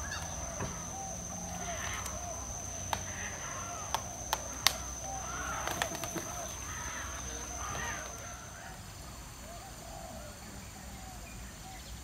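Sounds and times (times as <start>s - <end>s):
high-pitched whine: 0.0s - 10.2s
birds chirping: 0.0s - 12.0s.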